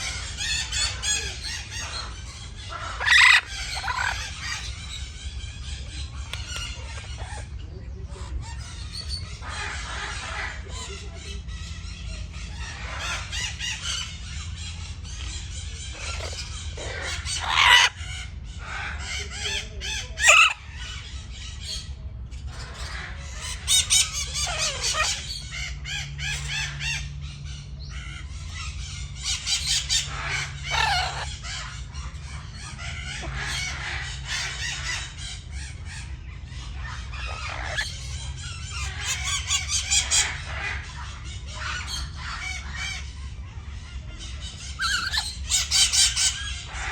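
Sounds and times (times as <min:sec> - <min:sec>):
parrots chattering and screeching: 0:00.0 - 0:46.9
steady low hum: 0:00.0 - 0:46.9.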